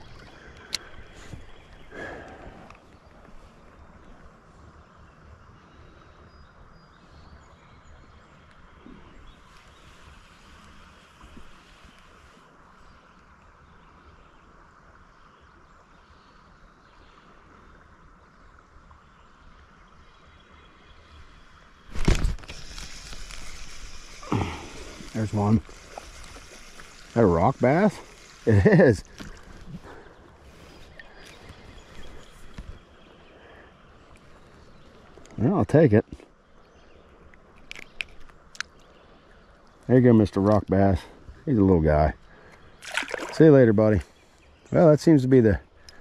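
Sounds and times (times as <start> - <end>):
river water flowing: 0.0 - 46.0.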